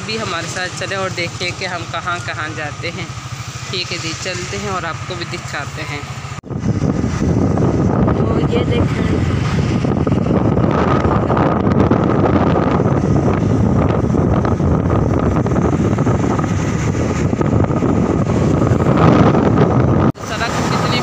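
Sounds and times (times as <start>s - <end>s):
vehicle drone: 0.0s - 21.0s
wind buffeting microphone: 0.0s - 21.0s.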